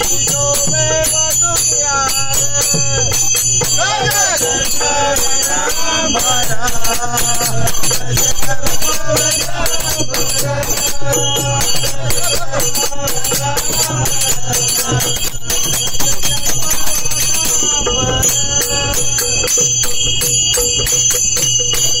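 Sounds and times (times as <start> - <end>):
group singing: 0.0 - 22.0
hand cymbals ringing: 0.0 - 22.0
hand drums: 0.0 - 22.0.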